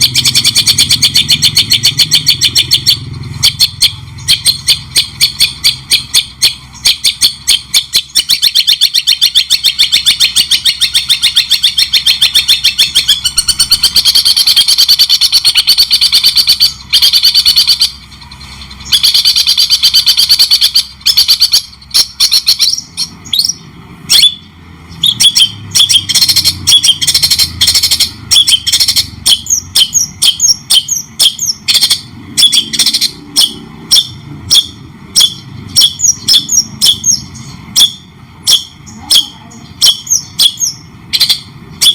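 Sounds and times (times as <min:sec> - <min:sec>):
fast chattering songbird song: 0:00.0 - 0:41.9.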